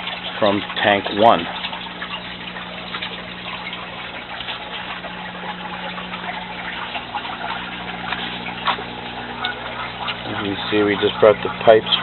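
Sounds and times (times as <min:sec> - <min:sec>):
steady low hum: 0:00.0 - 0:12.0
water running and splashing: 0:00.0 - 0:12.0.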